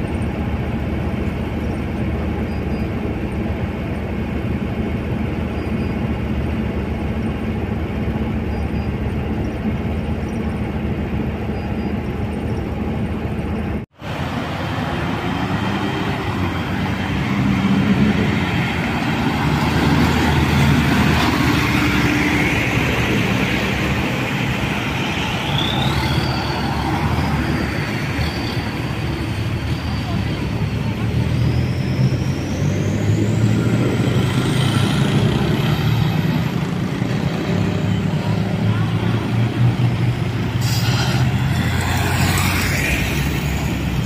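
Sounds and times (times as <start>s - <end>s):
minibus engine and road drone: 0.0s - 44.0s
vehicles passing: 0.0s - 44.0s.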